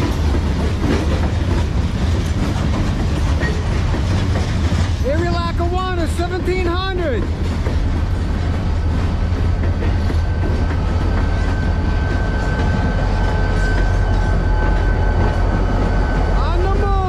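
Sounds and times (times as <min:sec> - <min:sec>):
diesel locomotive engine: 0:00.0 - 0:17.0
freight cars rumbling on rails: 0:00.0 - 0:17.0.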